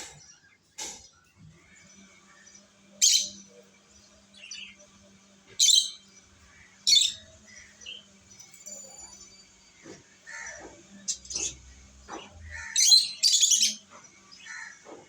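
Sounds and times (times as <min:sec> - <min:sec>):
lovebirds chirping: 0:01.8 - 0:14.8.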